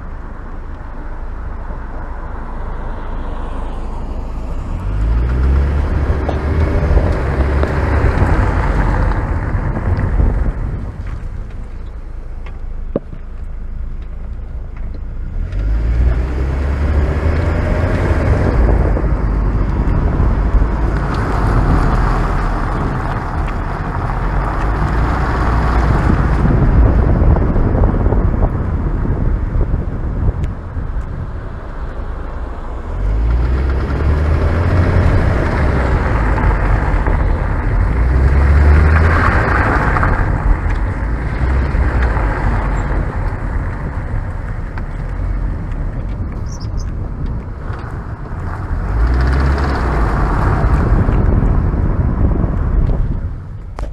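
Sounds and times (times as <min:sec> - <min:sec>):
car engine pulling away: 0:00.0 - 0:53.9
road noise: 0:00.0 - 0:53.9.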